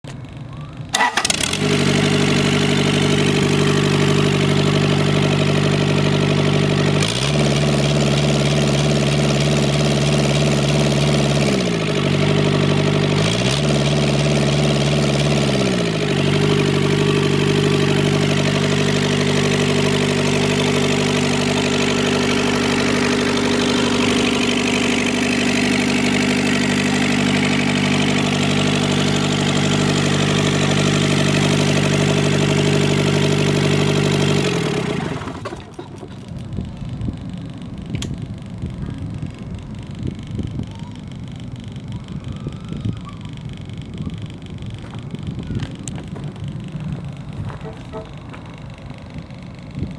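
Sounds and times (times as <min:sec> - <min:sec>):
diesel engine starting and running: 0:00.0 - 0:49.9.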